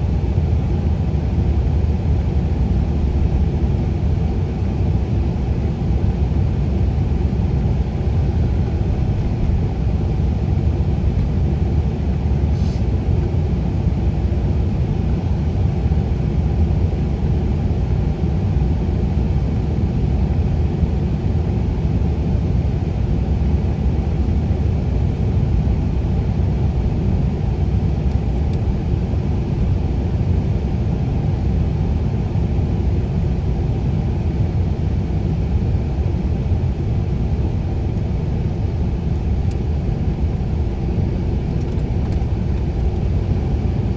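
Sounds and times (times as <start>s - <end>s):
road and engine rumble in car cabin: 0.0s - 43.9s.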